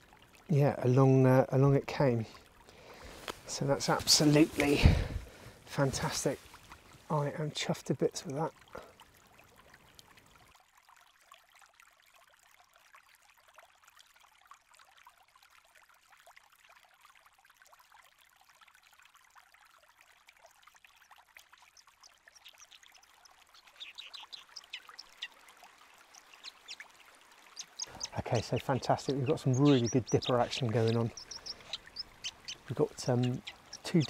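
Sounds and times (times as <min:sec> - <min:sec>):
faint running river water: 0:00.0 - 0:34.0.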